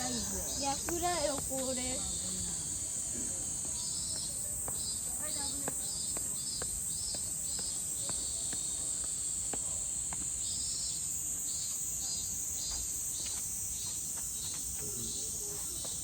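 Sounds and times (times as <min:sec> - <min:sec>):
insect pulsed chirp: 0:00.0 - 0:16.0
insects droning hiss: 0:00.0 - 0:16.0.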